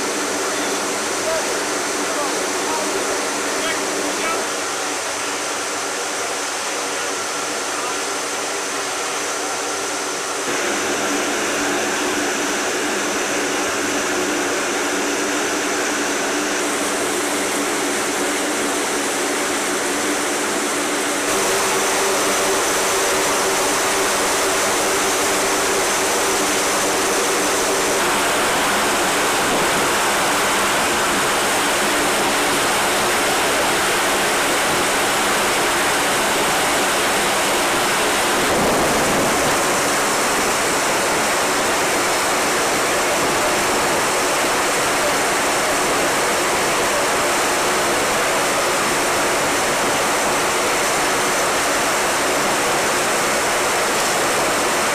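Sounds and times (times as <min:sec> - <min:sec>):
aircraft engines roaring: 0:00.0 - 0:54.9.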